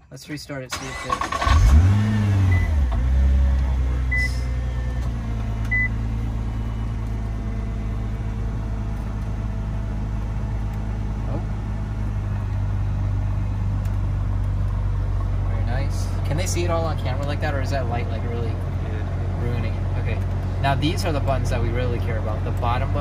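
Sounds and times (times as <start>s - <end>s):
car engine idling: 0.5s - 23.0s.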